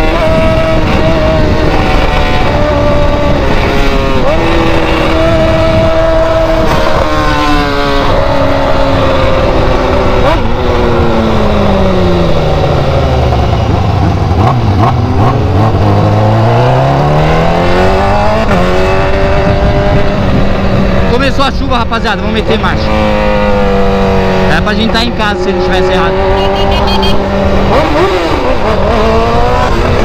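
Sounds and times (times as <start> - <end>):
car engine with loud exhaust: 0.0 - 30.0.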